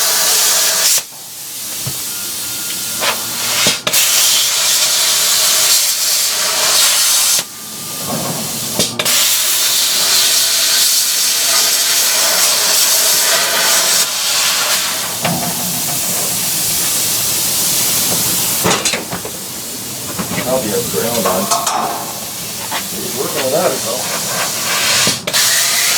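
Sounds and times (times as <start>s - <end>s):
pneumatic tool hissing: 0.0s - 25.9s.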